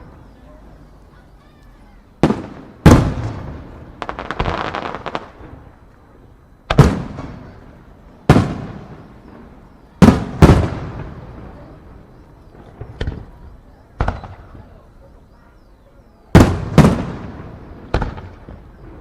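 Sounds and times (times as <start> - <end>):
fireworks booms with echo: 0.0 - 19.0
fireworks crackling pops: 1.4 - 14.9, 16.3 - 19.0.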